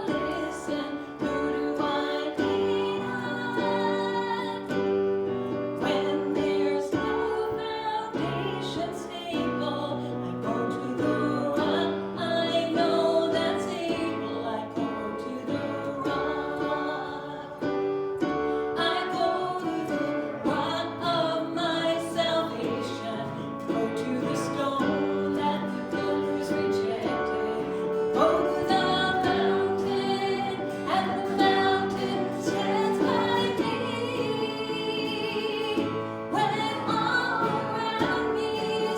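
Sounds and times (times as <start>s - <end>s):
people singing: 0.0s - 38.9s.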